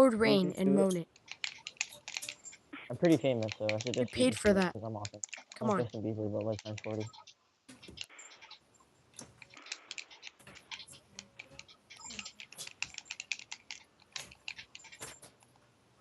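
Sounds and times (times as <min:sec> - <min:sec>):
rapid irregular clicking: 0:00.8 - 0:15.7.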